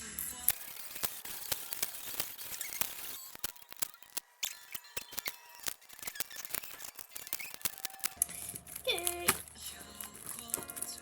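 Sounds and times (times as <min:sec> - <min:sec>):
packaging clicks and crackles: 0:00.2 - 0:11.0
packaging rustling: 0:00.5 - 0:11.0.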